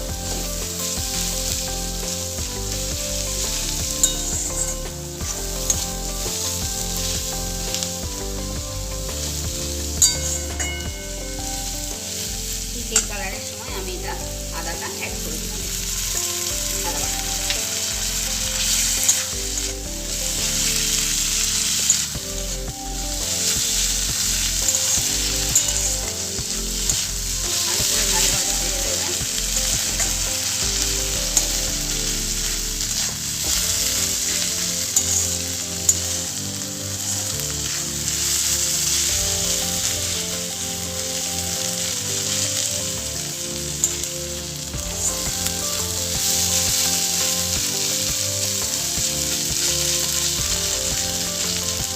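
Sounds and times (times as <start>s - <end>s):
onions sizzling in hot oil: 0.0s - 51.9s.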